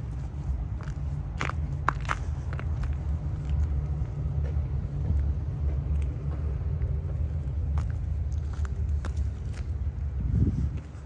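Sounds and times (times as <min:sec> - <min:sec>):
footsteps crunching on snow: 0:00.0 - 0:11.0
low outdoor rumble: 0:00.0 - 0:11.0.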